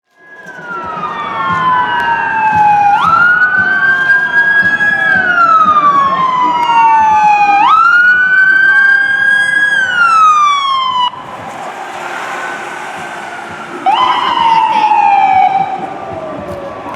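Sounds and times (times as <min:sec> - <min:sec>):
fire engine siren wailing: 0:00.1 - 0:16.9
ambulance siren wailing: 0:00.2 - 0:16.9.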